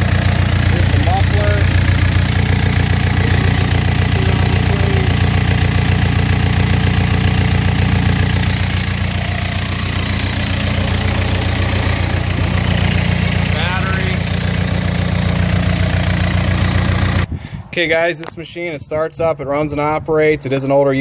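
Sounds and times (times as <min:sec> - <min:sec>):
loader engine running: 0:00.0 - 0:17.3.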